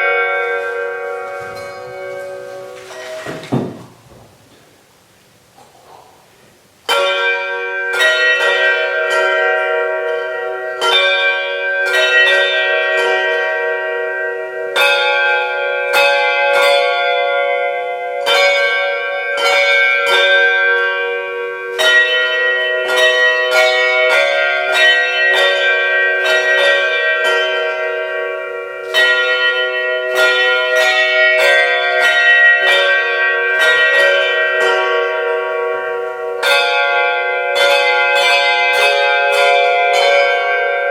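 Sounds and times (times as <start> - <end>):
handbells playing a carol: 0.0 - 3.4, 6.9 - 40.9.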